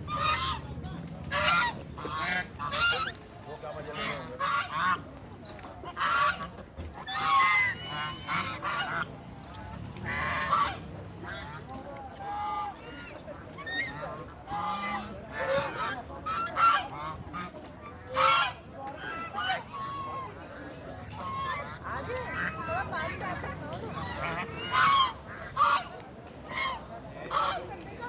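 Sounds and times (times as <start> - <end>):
ducks or geese honking and quacking: 0.0 - 28.0.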